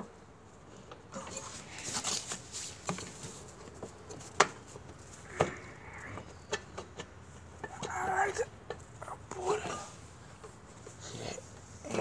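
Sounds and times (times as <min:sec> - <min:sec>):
engine parts clicking and knocking: 0:00.5 - 0:12.0.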